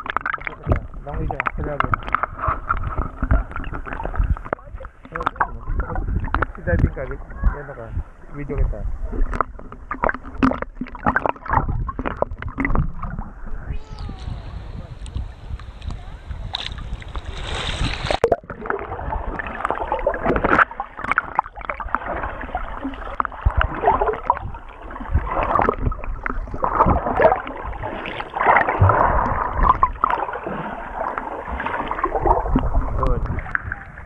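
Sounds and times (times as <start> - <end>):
muffled underwater churning and bubbles: 0.0 - 34.0
sea water sloshing: 0.0 - 34.0.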